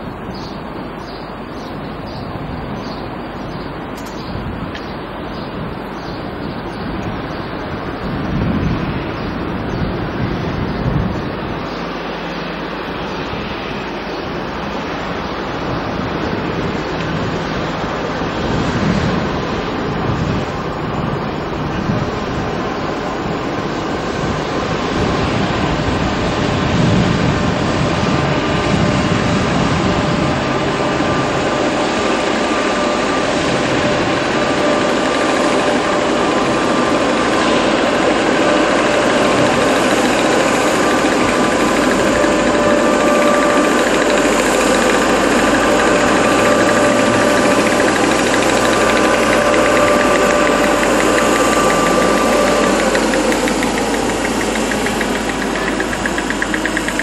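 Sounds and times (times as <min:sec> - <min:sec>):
electric locomotive drone: 0:00.0 - 0:57.0
locomotive whining tones: 0:00.0 - 0:57.0.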